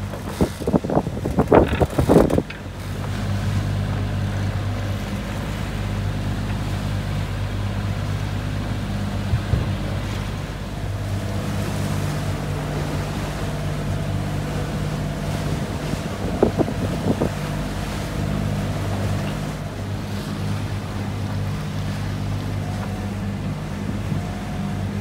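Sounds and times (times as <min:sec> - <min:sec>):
boat engine humming: 0:00.0 - 0:25.0
wind and waves rushing: 0:00.0 - 0:25.0.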